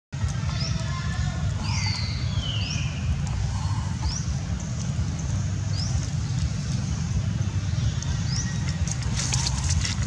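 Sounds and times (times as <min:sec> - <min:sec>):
low rumble: 0:00.2 - 0:10.0
bird chirping: 0:00.4 - 0:09.9.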